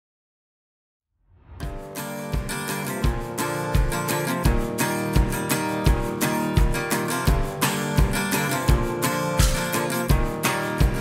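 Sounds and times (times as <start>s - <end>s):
low thumping beat: 1.6s - 11.0s
strummed acoustic guitar: 1.6s - 11.0s.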